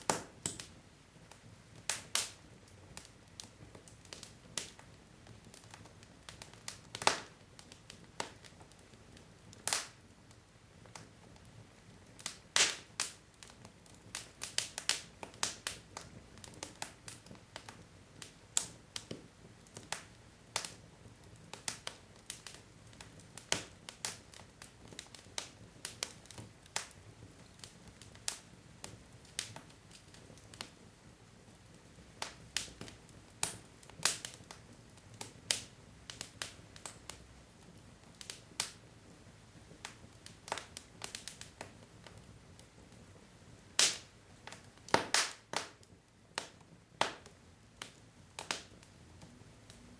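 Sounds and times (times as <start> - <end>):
burning logs crackling and popping: 0.0 - 49.9
faint steady hiss: 0.0 - 49.9.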